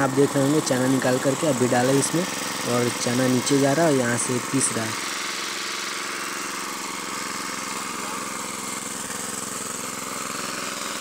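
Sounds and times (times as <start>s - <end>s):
flour mill grinding: 0.0s - 11.0s
small petrol engine running: 0.0s - 11.0s.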